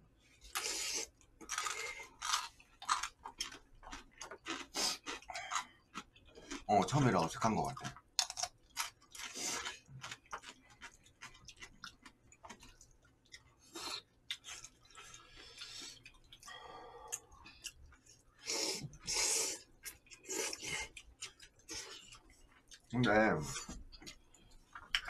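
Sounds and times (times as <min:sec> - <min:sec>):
chewing and mouth smacks: 0:01.4 - 0:06.7, 0:07.8 - 0:23.2, 0:23.8 - 0:25.0.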